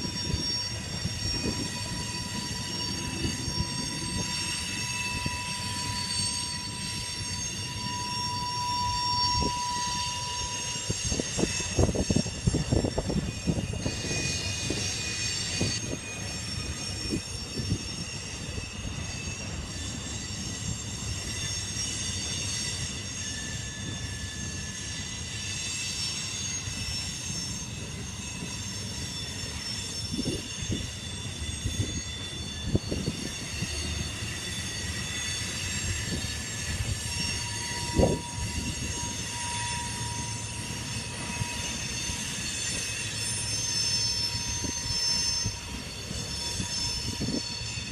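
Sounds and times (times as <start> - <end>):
low train rumble: 0.0 - 47.9
train wheels squealing: 0.0 - 47.9.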